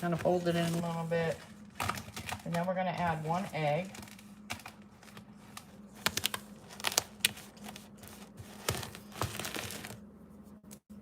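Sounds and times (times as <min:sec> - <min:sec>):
crinkling rustle: 0:00.0 - 0:10.0.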